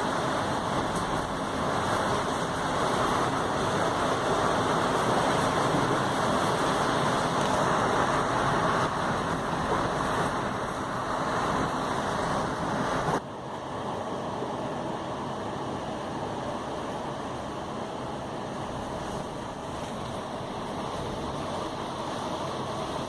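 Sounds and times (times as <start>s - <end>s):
heavy rain downpour: 0.0s - 23.0s.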